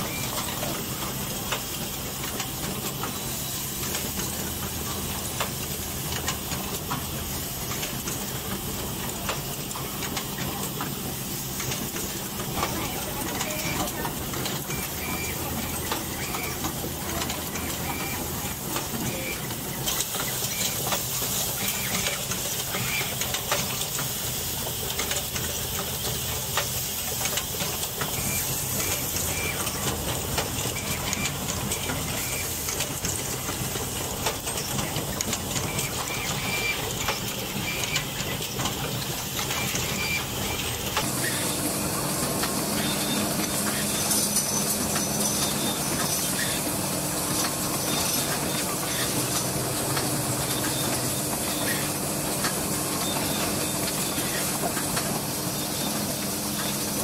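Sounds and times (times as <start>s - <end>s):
assembly machines clicking and clacking: 0.0s - 57.0s
machine hum: 0.0s - 57.0s.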